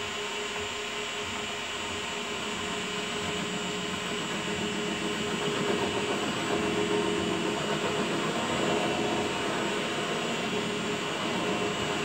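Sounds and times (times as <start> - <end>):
lathe motor whine: 0.0 - 12.0.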